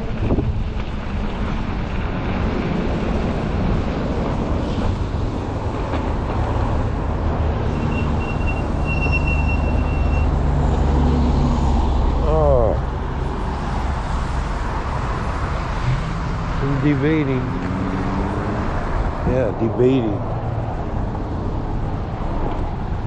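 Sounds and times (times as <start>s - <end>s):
road traffic: 0.0s - 23.0s
tyre and wind noise: 0.0s - 23.0s.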